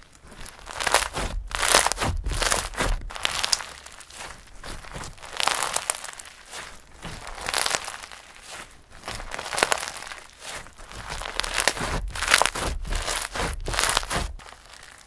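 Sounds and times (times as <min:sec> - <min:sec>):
slime squished by hand: 0:00.2 - 0:15.0.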